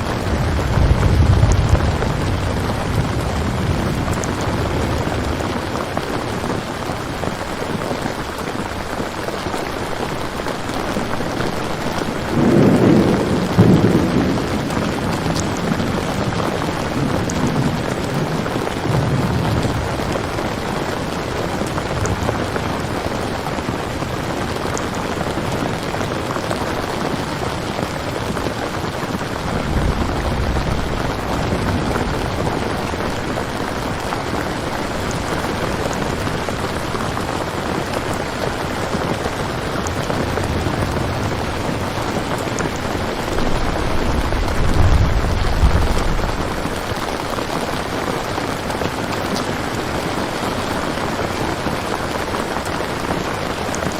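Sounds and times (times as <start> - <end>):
steady rain: 0.0 - 53.9
thunder rumbling: 0.0 - 53.9.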